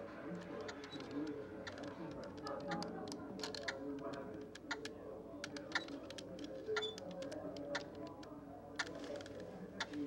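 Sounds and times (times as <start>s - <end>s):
murmur of voices: 0.0s - 10.0s.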